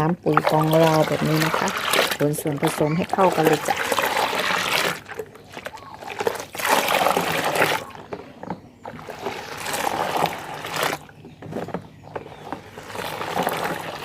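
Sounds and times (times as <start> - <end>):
water sloshing and trickling: 0.0 - 14.0.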